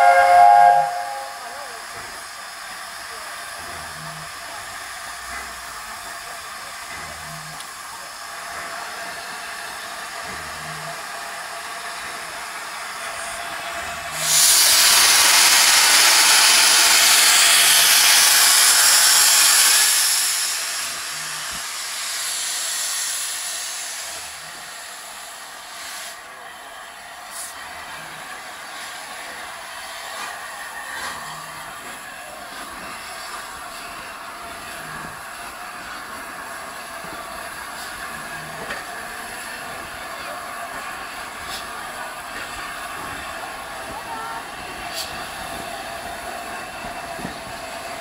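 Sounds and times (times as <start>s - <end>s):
loud rush of steam: 0.0s - 48.0s
steam locomotive hissing: 0.0s - 48.0s.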